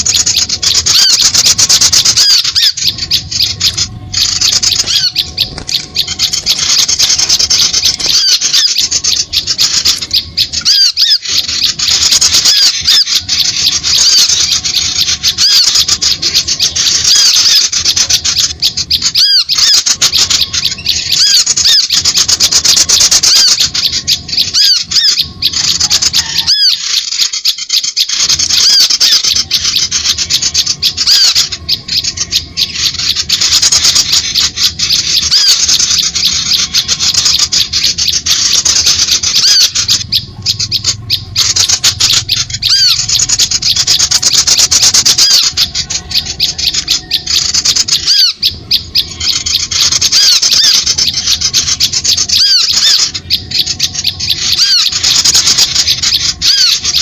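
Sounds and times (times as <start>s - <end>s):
small birds chattering: 0.0s - 57.0s.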